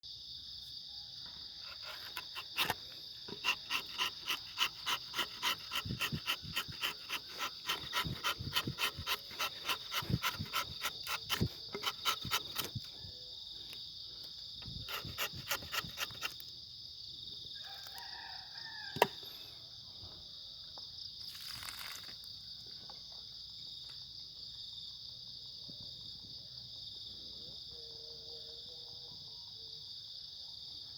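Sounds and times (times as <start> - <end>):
crickets trilling: 0.1 - 30.9.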